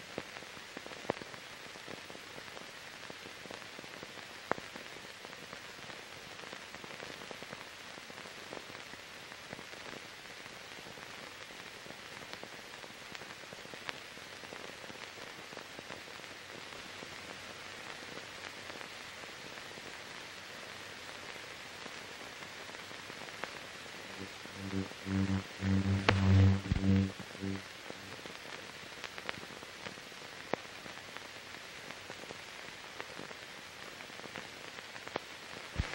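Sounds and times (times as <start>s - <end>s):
film hiss: 0.0s - 35.9s.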